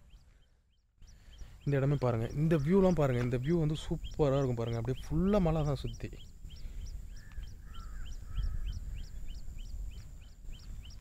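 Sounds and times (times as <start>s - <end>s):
low warbled bird calls: 0.0s - 11.0s
low wind rumble: 1.0s - 11.0s.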